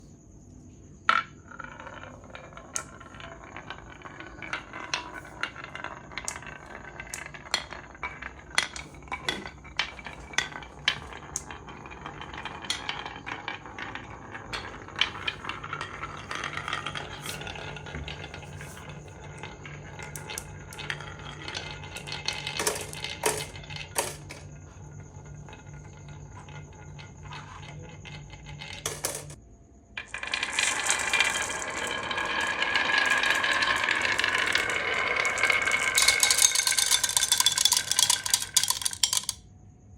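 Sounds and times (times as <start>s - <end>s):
marbles clacking on a track: 1.1s - 29.4s, 30.0s - 39.5s.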